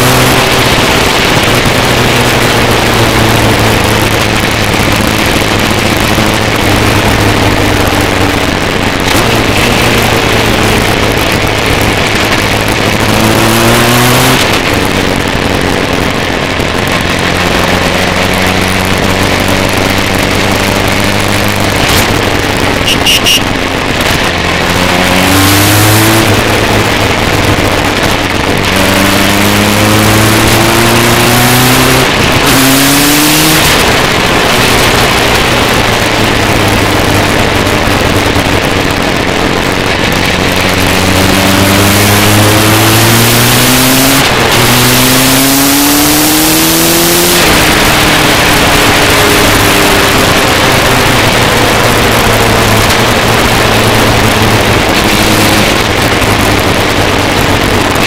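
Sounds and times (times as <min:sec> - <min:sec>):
motorcycle engine accelerating: 0:00.0 - 0:58.0
wind noise: 0:00.0 - 0:58.0.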